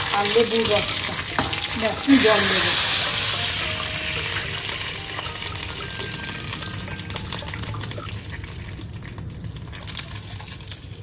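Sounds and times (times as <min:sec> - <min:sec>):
water hissing in hot oil: 0:00.0 - 0:11.0.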